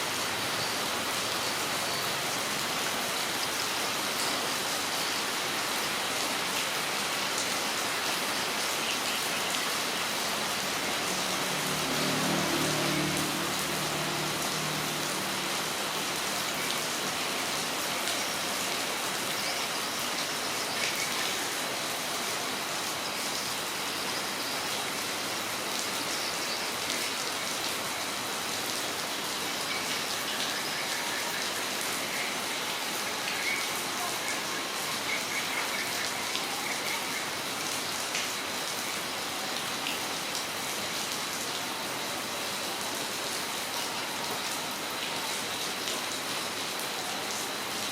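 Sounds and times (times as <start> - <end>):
steady rain pattering: 0.0 - 47.9.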